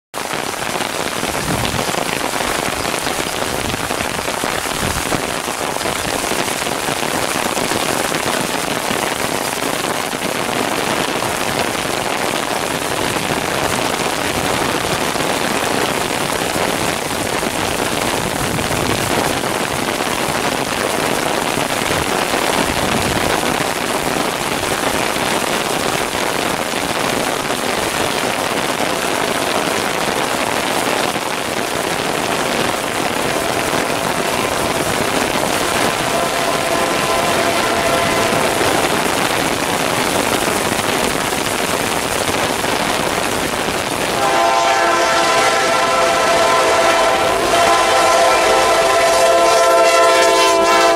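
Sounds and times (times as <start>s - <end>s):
heavy rain falling: 0.1s - 50.9s.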